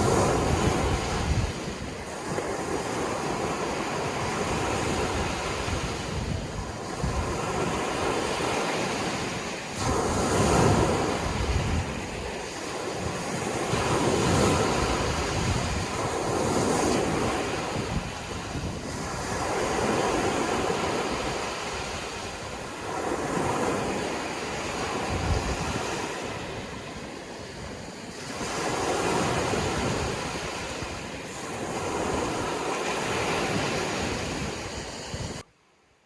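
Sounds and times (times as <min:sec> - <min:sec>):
sea waves breaking on shore: 0:00.0 - 0:35.5.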